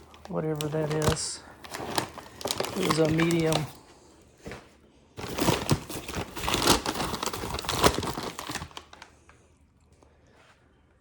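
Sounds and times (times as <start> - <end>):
bag crinkling and rustling: 0.0 - 9.4.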